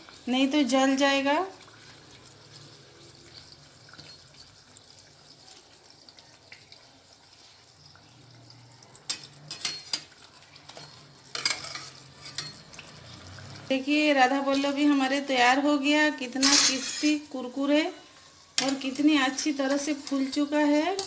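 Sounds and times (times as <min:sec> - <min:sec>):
sizzling and crackling oil: 0:00.0 - 0:21.0.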